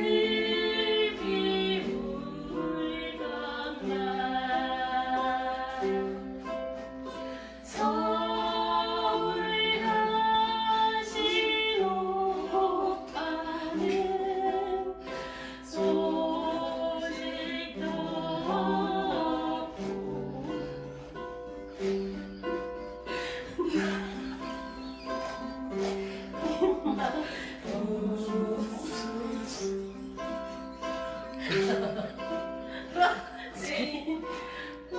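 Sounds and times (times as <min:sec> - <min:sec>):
group of voices singing: 0:00.0 - 0:22.1, 0:23.2 - 0:30.5
steady lower accompaniment: 0:00.0 - 0:34.9.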